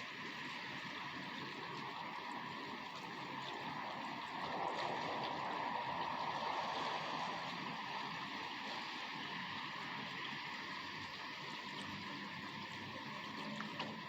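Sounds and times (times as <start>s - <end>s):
rainfall hiss: 0.0s - 13.6s.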